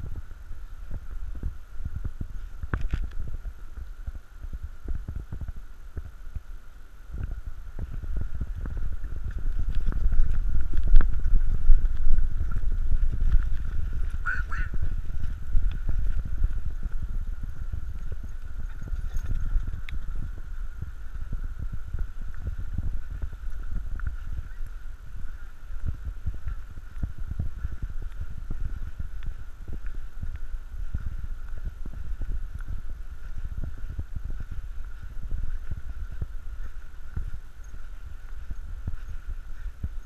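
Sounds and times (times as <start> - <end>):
footsteps on dirt trail: 0.0 - 40.0.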